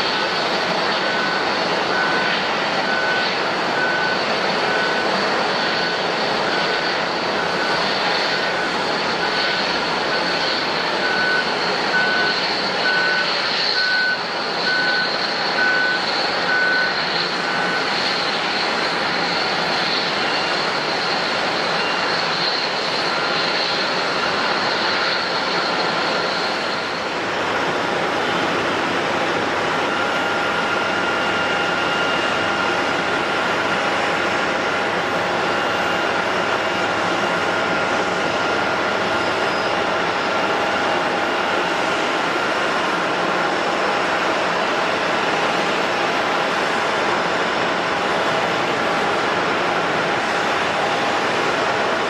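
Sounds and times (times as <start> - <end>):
reversing alarm beeping: 0.0 - 43.5
jet engine high whine: 0.0 - 52.0
jet engines rushing: 0.0 - 52.0.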